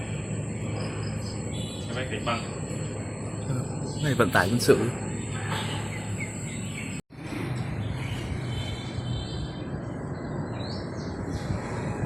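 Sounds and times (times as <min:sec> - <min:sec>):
aircraft engines droning overhead: 0:00.0 - 0:12.0.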